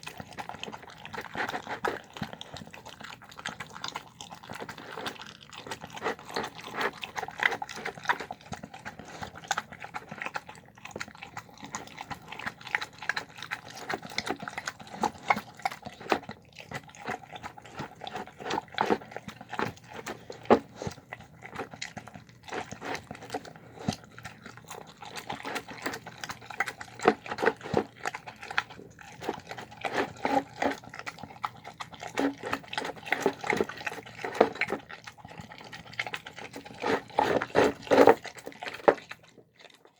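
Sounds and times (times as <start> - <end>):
dog chewing and smacking: 0.0 - 39.9.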